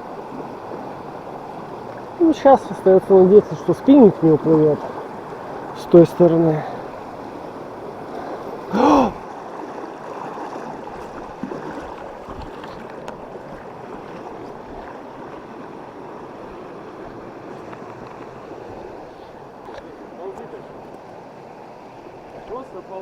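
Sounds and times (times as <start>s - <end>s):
river current rushing: 0.0s - 23.0s.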